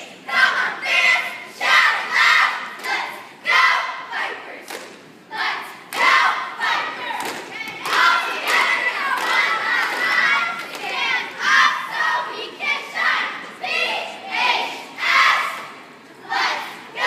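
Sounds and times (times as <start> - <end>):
girls shouting a cheer in unison: 0.0 - 17.0.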